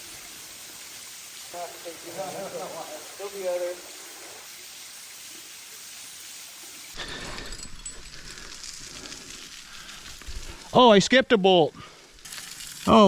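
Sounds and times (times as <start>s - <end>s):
waterfall: 0.0s - 13.0s.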